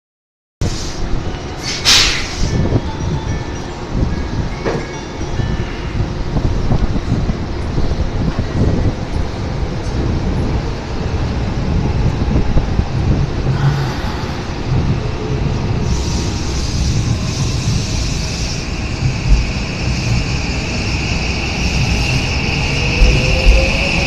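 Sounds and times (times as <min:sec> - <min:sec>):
train wheels rumbling: 0:00.7 - 0:24.0.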